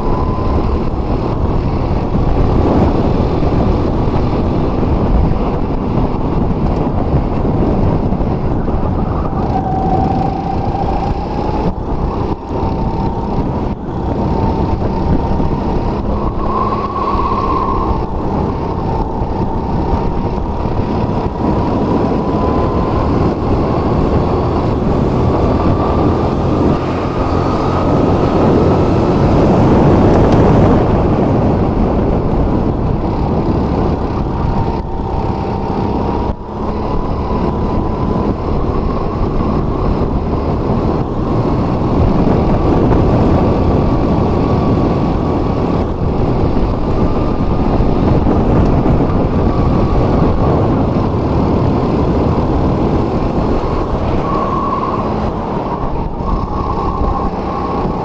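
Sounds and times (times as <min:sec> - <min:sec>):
go-kart motor at speed: 0:00.0 - 0:58.0.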